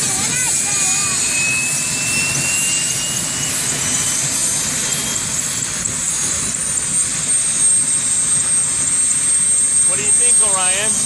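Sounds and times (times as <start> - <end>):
helicopter turbine engine whine: 0.0 - 11.0.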